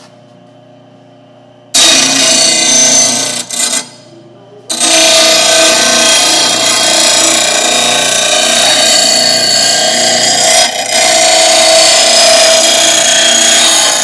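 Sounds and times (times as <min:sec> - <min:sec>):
grinder motor hum: 0:01.2 - 0:14.0
grinder wheel grinding metal: 0:01.8 - 0:04.0, 0:04.7 - 0:14.0.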